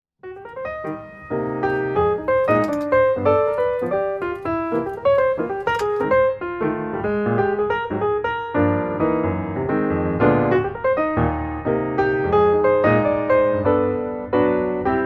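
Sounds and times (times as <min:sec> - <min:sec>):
piano music: 0:00.2 - 0:15.0.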